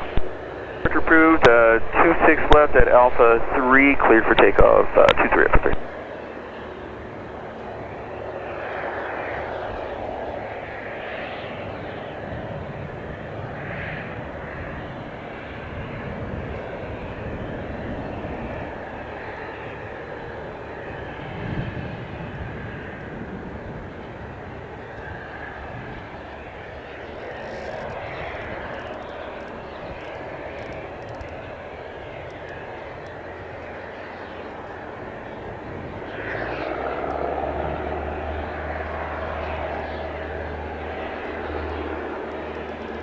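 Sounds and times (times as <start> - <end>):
propeller plane engine drone: 0.0 - 43.0.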